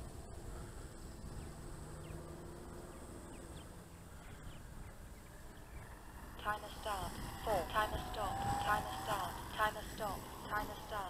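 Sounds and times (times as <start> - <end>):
distant model plane hum: 0.0 - 11.0.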